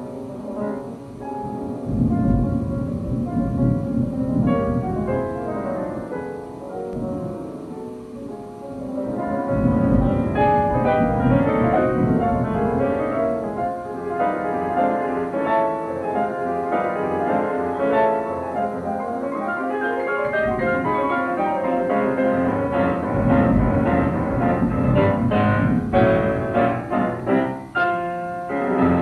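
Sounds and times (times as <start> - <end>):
piano background music: 0.0 - 29.0.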